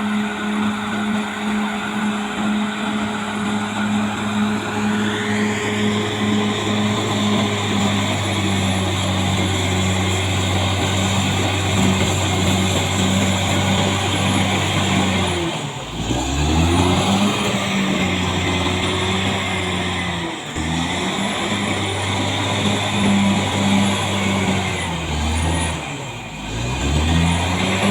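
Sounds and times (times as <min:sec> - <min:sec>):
bulldozer diesel engine under load: 0:00.0 - 0:27.9.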